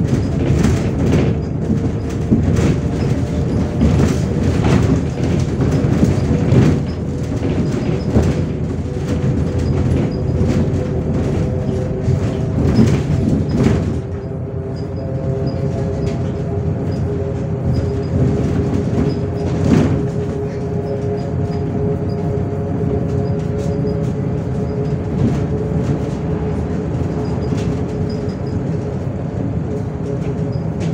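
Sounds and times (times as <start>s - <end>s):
bus body rattling and knocking: 0.0s - 30.9s
bus engine and road rumble: 0.0s - 30.9s.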